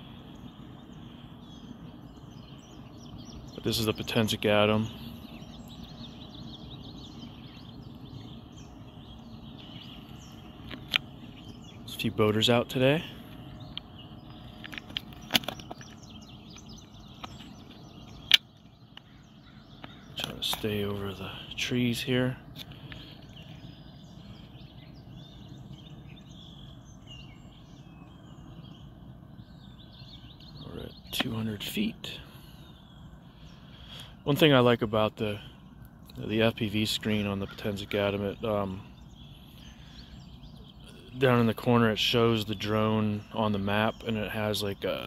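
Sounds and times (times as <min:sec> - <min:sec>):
low background rumble: 0:00.0 - 0:45.0
small birds chirping: 0:00.0 - 0:45.0
steady low noise: 0:00.0 - 0:45.0.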